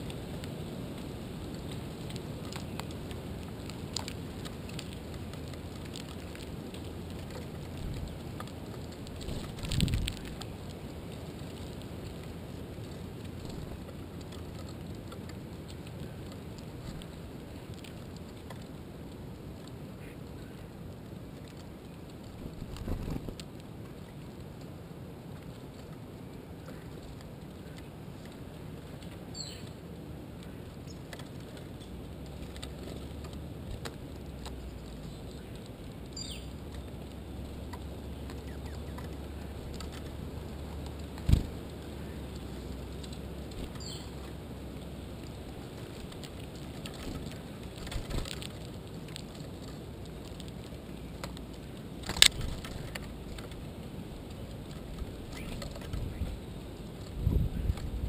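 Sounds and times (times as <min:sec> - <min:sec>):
small birds chirping: 0:00.0 - 0:24.5, 0:25.4 - 0:58.0
light ticks: 0:00.0 - 0:29.8, 0:30.4 - 0:58.0
wind rumbling on microphone: 0:00.0 - 0:58.0.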